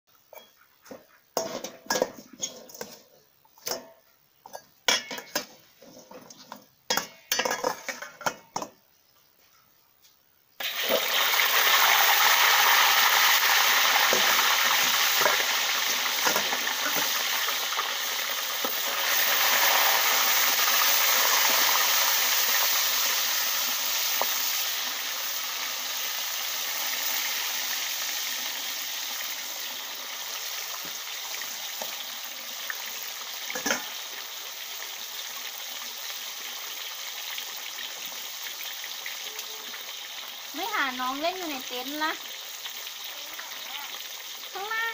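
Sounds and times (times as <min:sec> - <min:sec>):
fish sizzling in hot oil: 0:00.3 - 0:08.5, 0:10.5 - 0:44.9.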